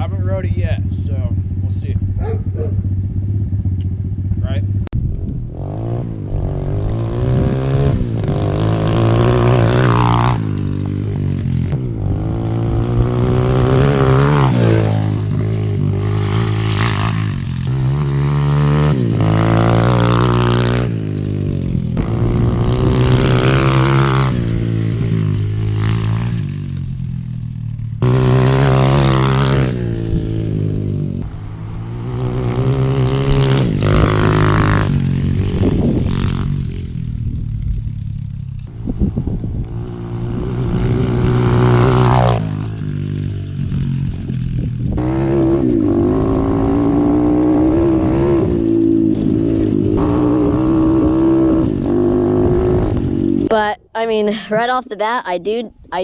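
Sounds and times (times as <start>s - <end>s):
dirt bike engine revving: 0.0s - 4.8s, 5.4s - 53.6s.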